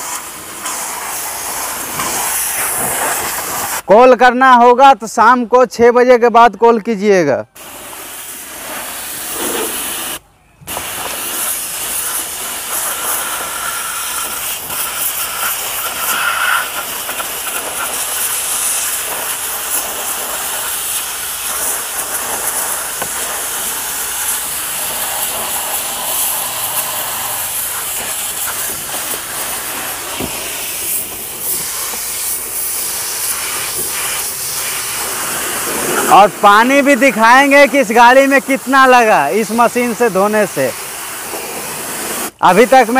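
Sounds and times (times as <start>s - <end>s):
spray gun jetting water: 0.0s - 3.9s, 7.5s - 42.9s.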